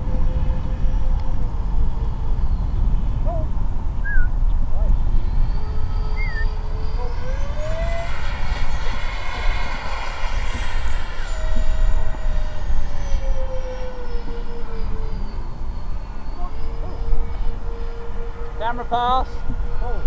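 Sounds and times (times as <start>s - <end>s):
model aircraft electric fans whining: 0.0s - 20.0s.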